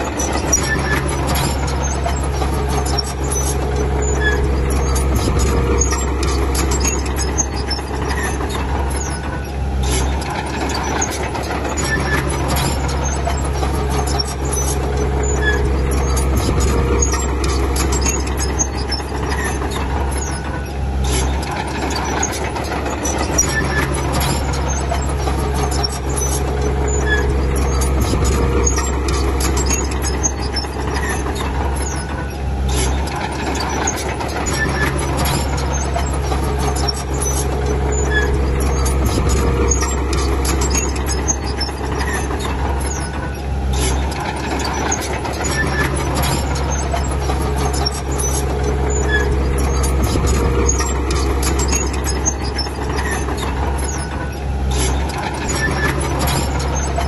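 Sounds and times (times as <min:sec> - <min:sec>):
bulldozer diesel engine under load: 0:00.0 - 0:57.0
metal squeaks and clinks: 0:00.0 - 0:57.0.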